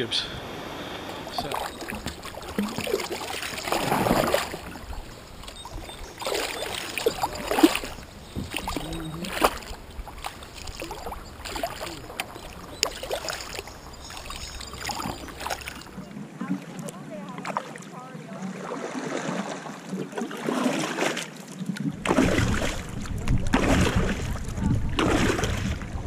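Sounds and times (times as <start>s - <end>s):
kayak paddle splashing water: 1.1s - 26.0s.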